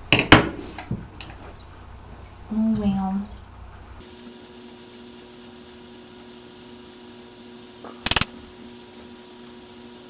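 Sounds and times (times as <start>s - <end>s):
low hum with hiss: 0.0s - 8.8s.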